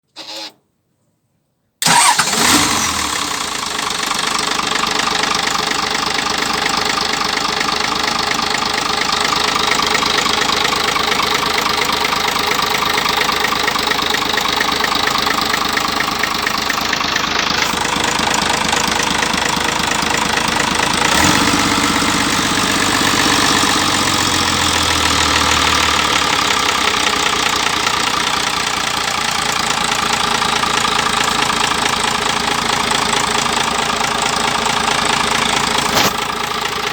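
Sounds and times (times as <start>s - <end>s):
diesel engine idling: 1.8s - 36.9s.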